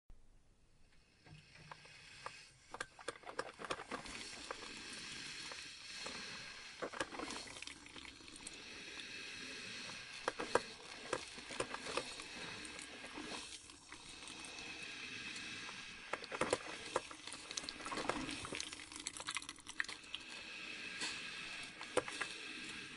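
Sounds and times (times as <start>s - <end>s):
coffee brewer hissing and popping: 0.9s - 22.9s.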